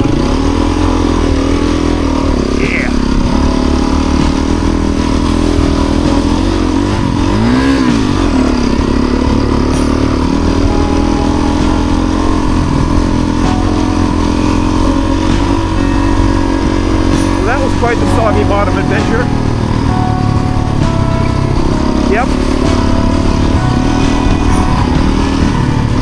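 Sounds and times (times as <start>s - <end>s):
motorcycle engine revving: 0.0s - 26.0s
motorcycle engine running: 0.0s - 26.0s.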